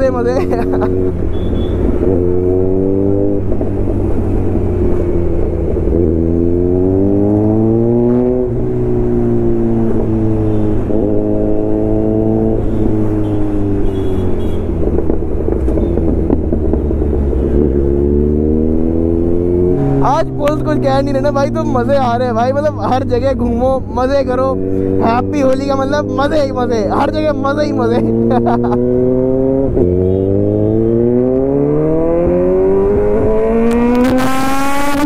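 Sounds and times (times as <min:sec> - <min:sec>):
motorcycle engine accelerating: 0:00.0 - 0:13.9, 0:14.7 - 0:23.4, 0:24.2 - 0:35.0.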